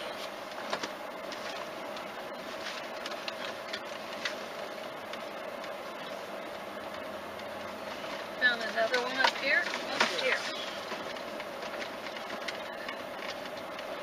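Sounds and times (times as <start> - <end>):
car running hum: 0.0 - 14.0.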